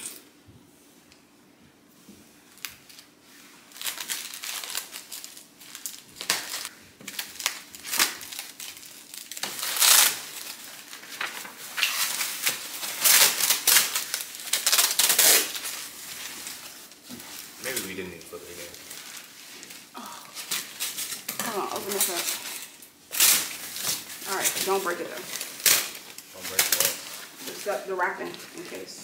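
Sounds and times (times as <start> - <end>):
plastic wrap crinkling: 2.3 - 29.0.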